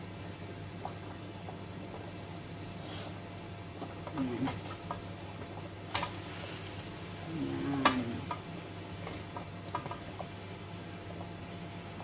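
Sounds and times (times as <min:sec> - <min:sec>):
crepe sizzling in pan: 0:00.0 - 0:12.0.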